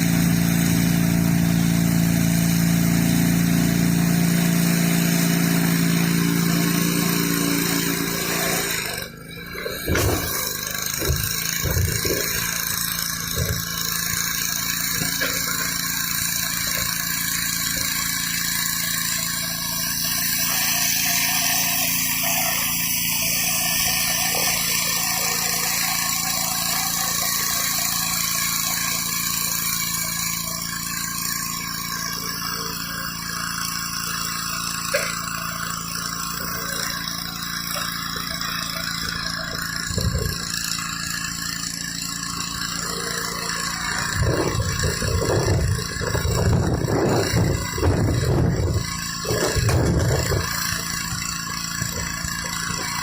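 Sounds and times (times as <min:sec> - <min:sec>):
pressure washer engine running: 0:00.0 - 0:53.0
water jet hissing on concrete: 0:00.0 - 0:53.0.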